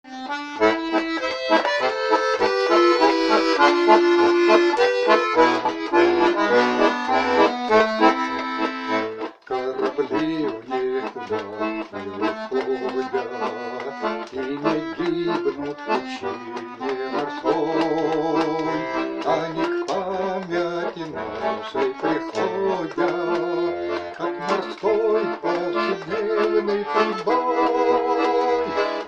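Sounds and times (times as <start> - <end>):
accordion playing chords: 0.0 - 29.0.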